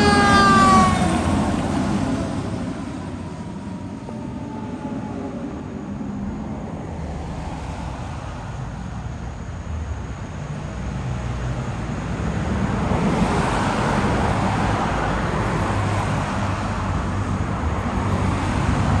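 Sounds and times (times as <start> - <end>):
passing vehicles engine and tyres: 0.0 - 19.0.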